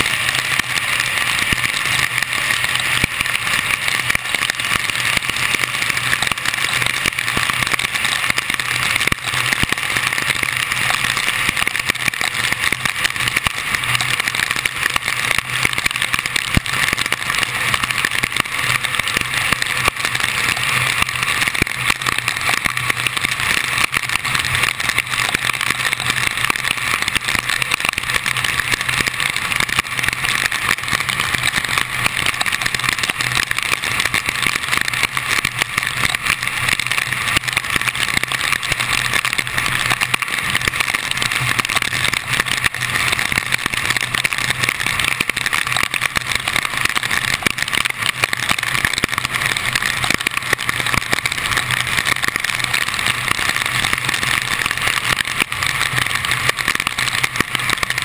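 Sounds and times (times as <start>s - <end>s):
rain and tyre spray: 0.0s - 58.0s.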